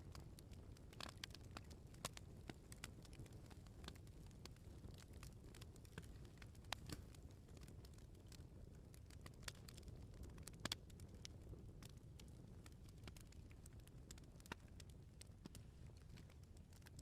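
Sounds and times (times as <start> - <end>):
bonfire crackling and popping: 0.0 - 17.0.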